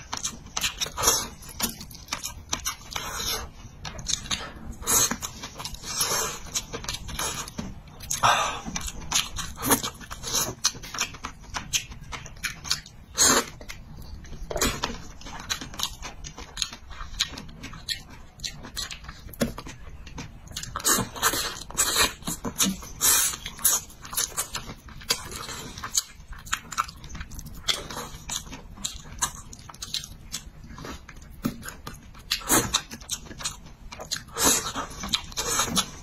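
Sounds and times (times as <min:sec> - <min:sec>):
person chewing and biting: 0:00.0 - 0:36.0.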